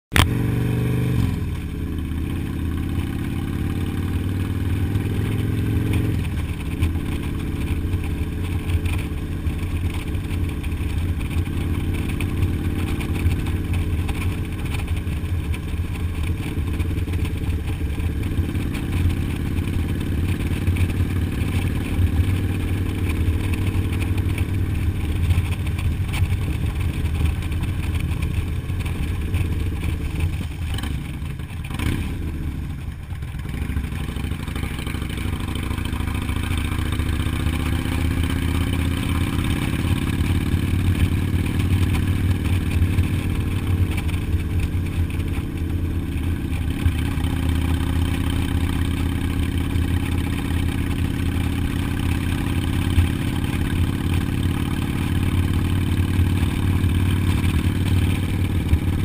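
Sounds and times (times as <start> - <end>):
motorcycle engine running: 0.1 - 59.0.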